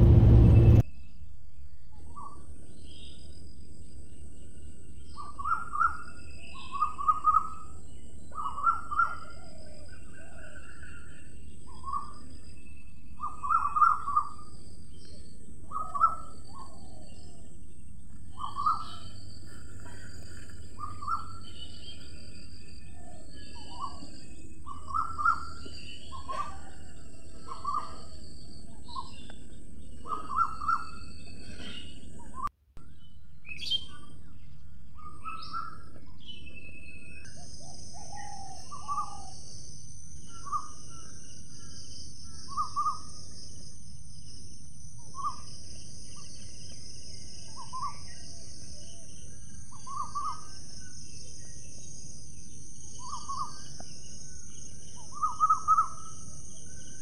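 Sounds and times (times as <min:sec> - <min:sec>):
wild birds calling: 0:04.4 - 0:57.0.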